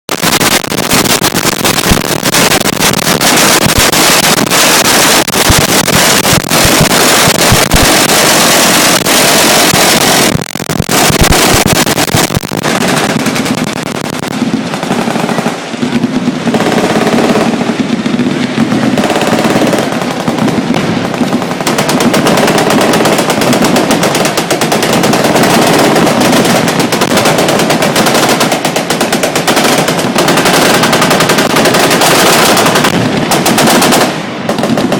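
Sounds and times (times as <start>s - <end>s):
machine guns firing bursts: 0.1s - 34.9s.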